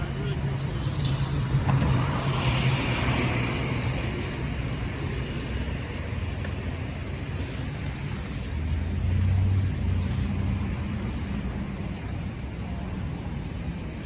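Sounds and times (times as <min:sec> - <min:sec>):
traffic passing: 0:00.0 - 0:14.0.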